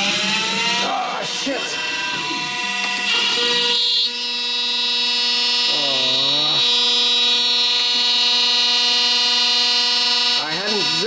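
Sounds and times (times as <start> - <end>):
machine spindle whining: 0.0 - 11.0.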